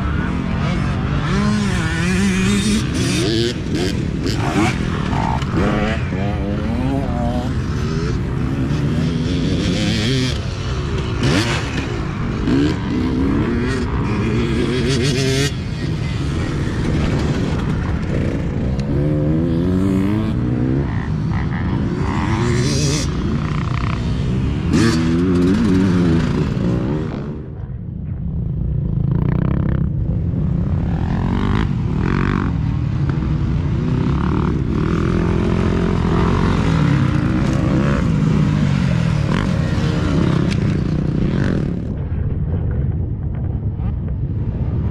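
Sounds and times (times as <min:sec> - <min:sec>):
dirt bike engines revving: 0:00.0 - 0:43.3.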